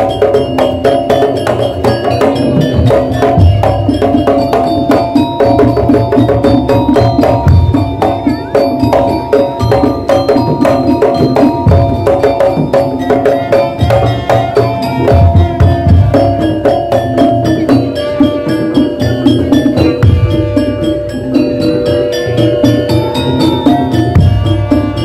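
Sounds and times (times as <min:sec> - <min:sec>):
drums: 0:00.0 - 0:25.0
tuned metal percussion: 0:00.0 - 0:25.0.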